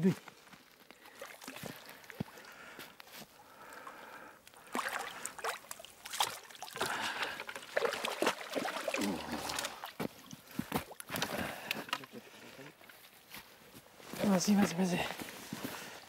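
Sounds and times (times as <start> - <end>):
water splashing and sloshing: 0.8 - 14.2.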